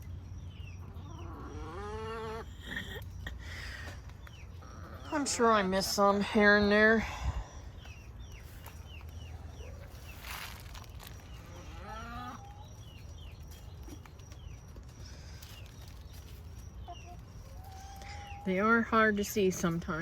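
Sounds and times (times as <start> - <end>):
birds chirping: 0.0 - 20.0
drawn-out farm animal call: 0.0 - 20.0.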